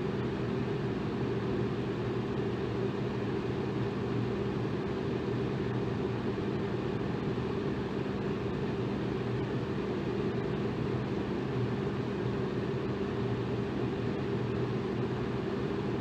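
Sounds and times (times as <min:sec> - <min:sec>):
fan motor hum: 0:00.0 - 0:16.0.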